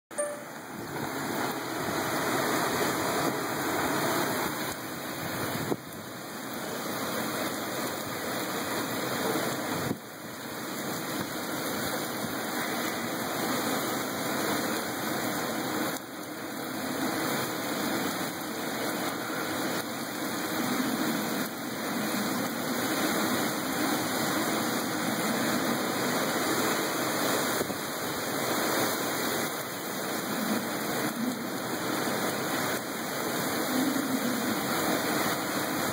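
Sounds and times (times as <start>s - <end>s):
heavy rain pouring: 0.1s - 35.9s
gusting storm wind: 0.5s - 35.9s.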